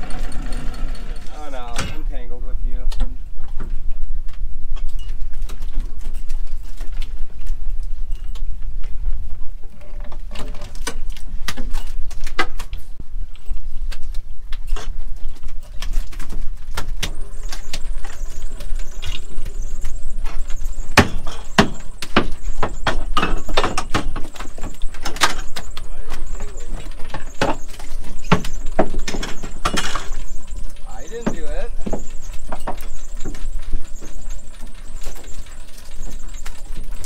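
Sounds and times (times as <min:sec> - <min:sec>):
knocks and clatters: 0:02.9 - 0:37.0.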